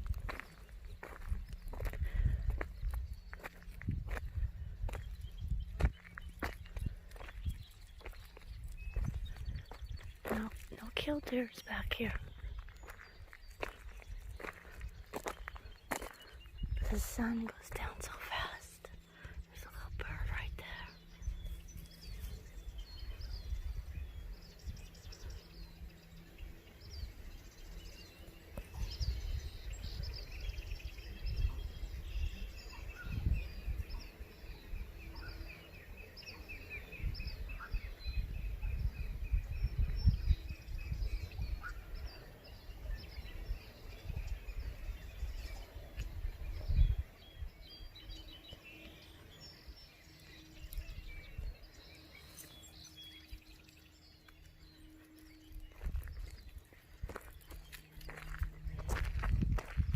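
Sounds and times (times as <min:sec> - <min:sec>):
low rumbling on microphone: 0:00.0 - 0:59.9
small birds chirping: 0:00.0 - 0:59.9.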